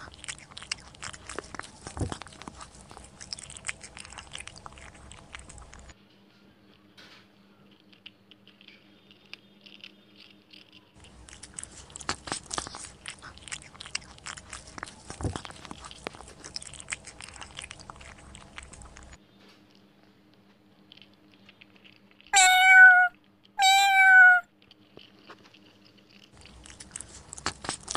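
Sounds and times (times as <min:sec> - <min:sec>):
cat crunching dry food: 0:00.0 - 0:06.0, 0:07.7 - 0:19.9, 0:20.8 - 0:27.9.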